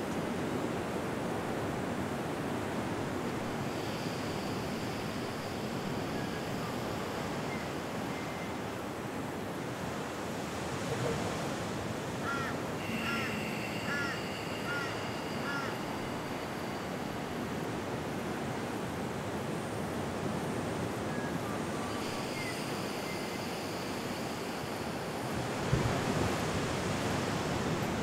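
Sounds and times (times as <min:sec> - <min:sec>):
steady rushing outdoor noise: 0:00.0 - 0:28.0.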